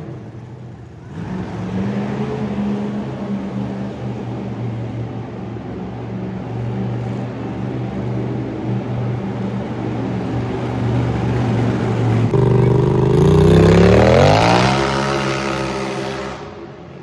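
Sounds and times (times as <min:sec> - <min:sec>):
truck engine revving: 0:00.0 - 0:16.8.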